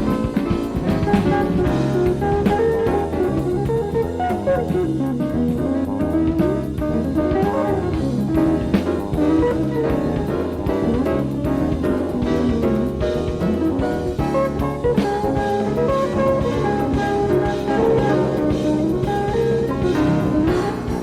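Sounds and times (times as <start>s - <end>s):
bass guitar: 0.0s - 21.0s
drum kit: 0.0s - 21.0s
jazz fusion band playing: 0.0s - 21.0s.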